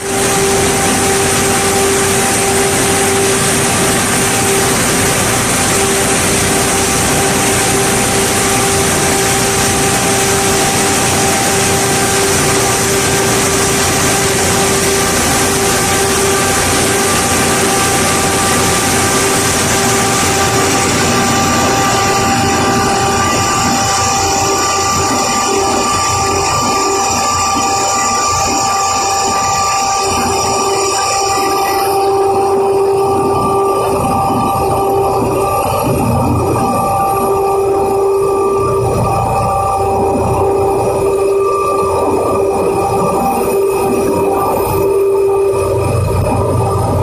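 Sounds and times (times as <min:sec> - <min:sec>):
machinery din with motor hum: 0:00.0 - 0:47.0.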